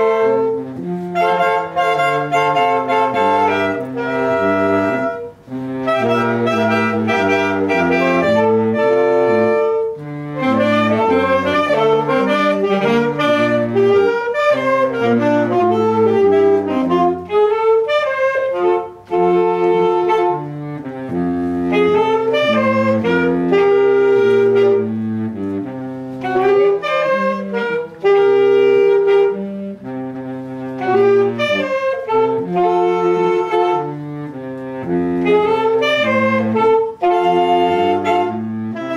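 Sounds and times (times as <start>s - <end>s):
saxophone quartet playing: 0.0s - 38.9s.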